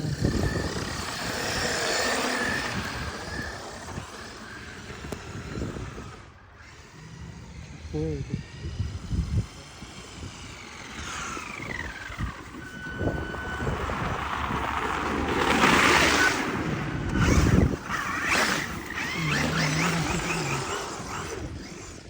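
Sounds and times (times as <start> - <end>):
toy car motor whining: 0.0 - 22.0.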